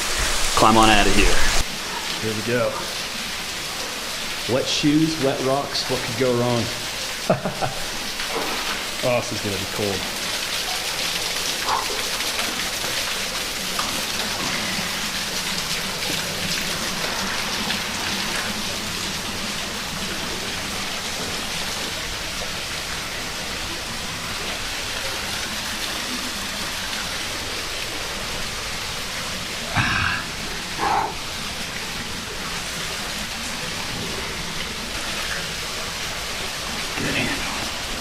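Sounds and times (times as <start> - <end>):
small waterfall splashing: 0.0 - 38.0.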